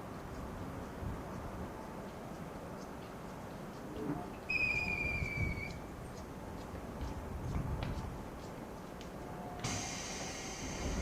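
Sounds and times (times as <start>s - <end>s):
low rumble inside train coach: 0.0s - 11.0s.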